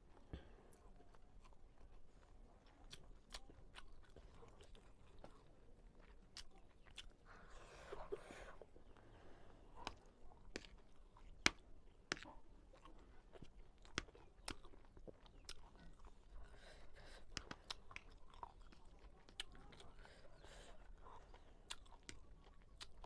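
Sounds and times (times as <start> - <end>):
chewing noodles: 0.1 - 23.0.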